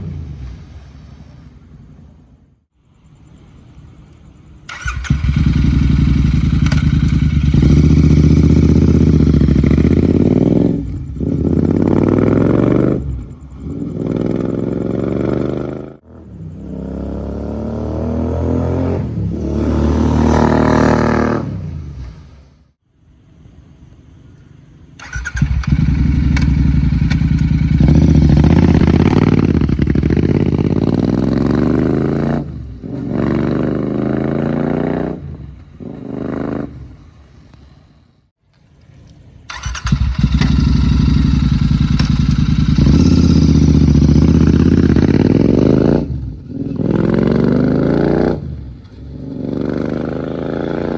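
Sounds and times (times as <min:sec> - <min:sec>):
motorcycle engine revving: 0:04.7 - 0:22.8, 0:25.0 - 0:37.4, 0:39.5 - 0:50.9.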